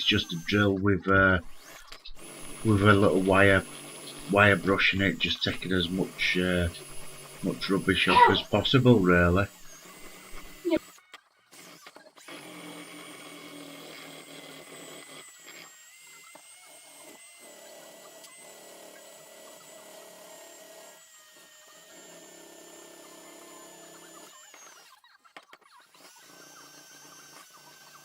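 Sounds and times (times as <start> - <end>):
electric drill wire brush whine: 0.0 - 0.7, 1.3 - 28.0.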